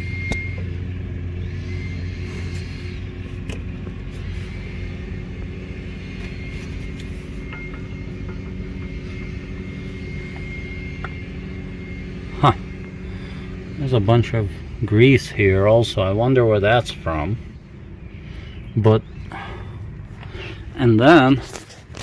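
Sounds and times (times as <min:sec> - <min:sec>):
engine running: 0:00.0 - 0:22.0
low hum: 0:00.0 - 0:22.0.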